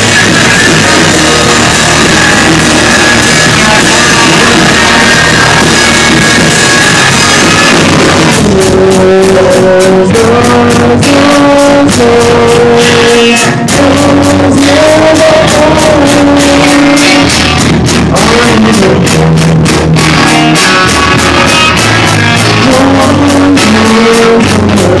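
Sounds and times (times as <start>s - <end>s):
drum kit hits: 0.0s - 25.0s
electric guitar: 0.0s - 25.0s.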